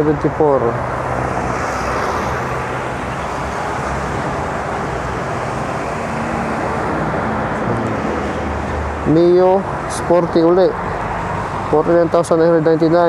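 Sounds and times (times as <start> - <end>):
passing vehicle engines: 0.0 - 13.0
road noise rumble: 0.0 - 13.0.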